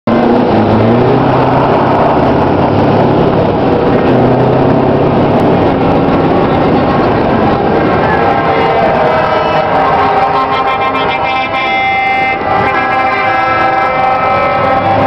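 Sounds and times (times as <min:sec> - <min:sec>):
truck diesel engine running: 0:00.1 - 0:15.0
wind and road rush: 0:00.1 - 0:15.0.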